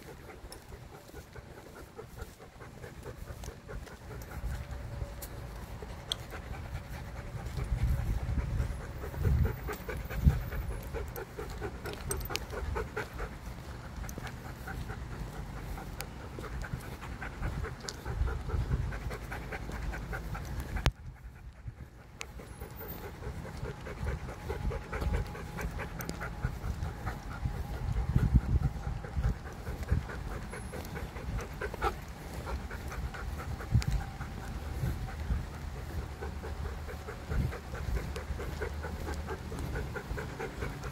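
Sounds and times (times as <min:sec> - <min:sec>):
dog panting: 0:00.0 - 0:40.9.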